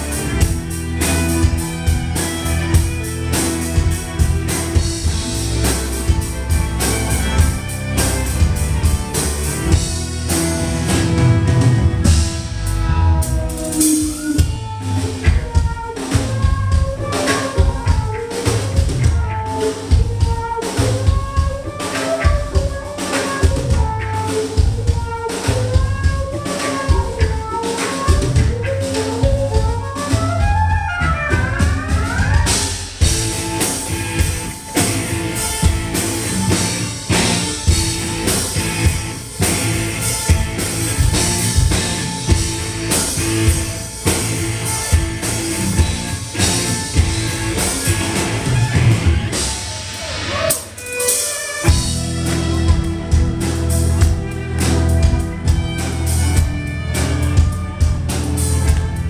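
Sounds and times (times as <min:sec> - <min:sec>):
instrumental metal band: 0:00.0 - 0:59.0
violin: 0:00.0 - 0:59.0.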